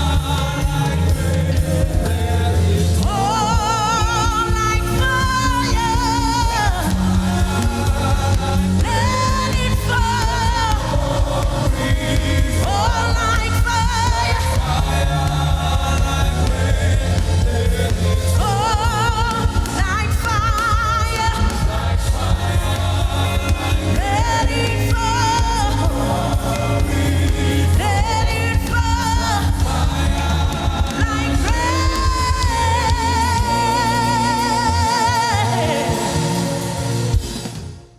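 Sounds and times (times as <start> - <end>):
singer with vibrato: 0.0 - 37.6
band with steady bass line: 0.0 - 37.9.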